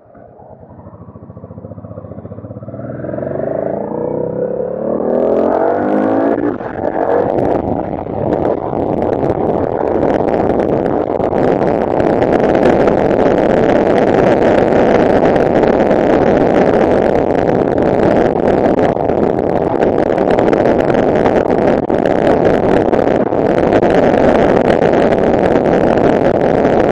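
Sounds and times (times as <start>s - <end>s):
motorcycle engine running: 0.0s - 26.9s
wind rushing: 0.0s - 26.9s.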